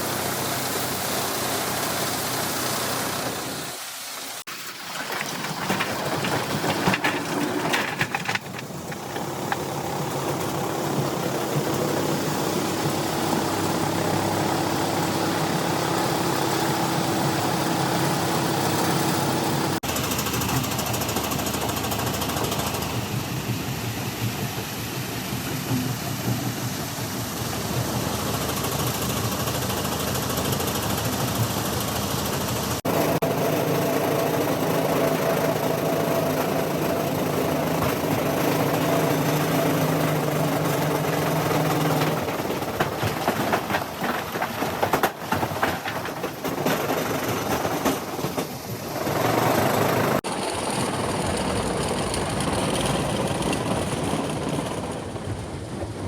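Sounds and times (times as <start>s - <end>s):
crusher machinery running: 4.5s - 56.0s.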